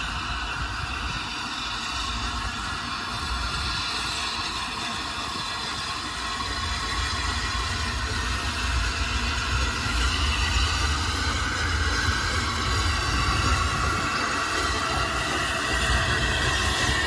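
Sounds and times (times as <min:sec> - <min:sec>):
steam locomotive working: 0:00.0 - 0:17.0.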